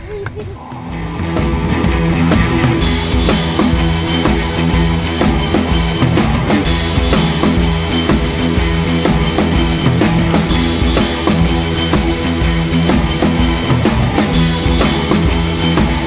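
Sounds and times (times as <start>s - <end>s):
music with drum beat and bass: 0.3s - 16.0s.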